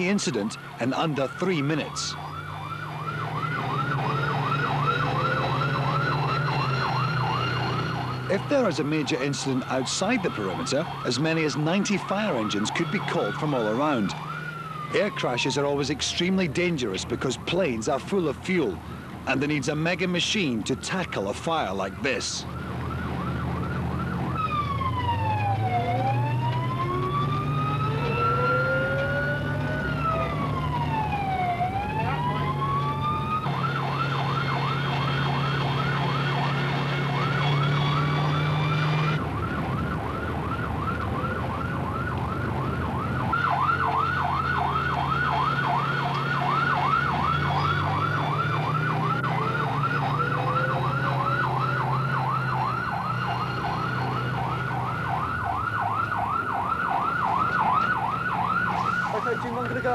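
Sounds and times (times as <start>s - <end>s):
siren wailing and yelping: 0.0s - 17.0s, 20.8s - 59.9s
truck engine droning: 0.0s - 59.9s.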